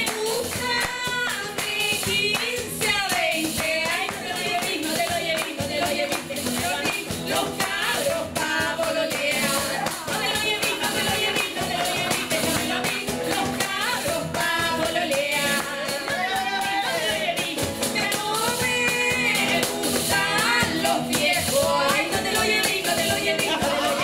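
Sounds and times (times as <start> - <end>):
acoustic guitar strummed: 0.0 - 24.0
two women singing: 0.0 - 24.0.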